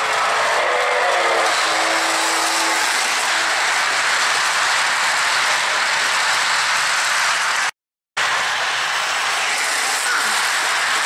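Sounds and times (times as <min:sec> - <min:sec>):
model train rolling: 0:00.0 - 0:11.0.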